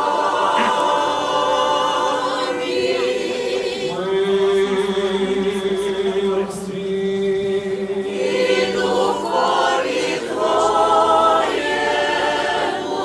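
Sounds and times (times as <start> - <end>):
choir singing chant: 0.0 - 13.0.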